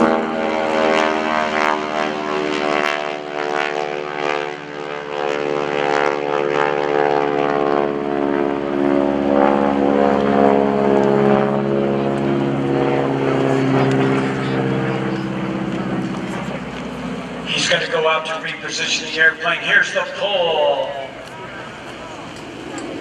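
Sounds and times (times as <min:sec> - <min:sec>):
propeller plane flying overhead: 0:00.0 - 0:23.0
propeller rasp: 0:00.0 - 0:23.0.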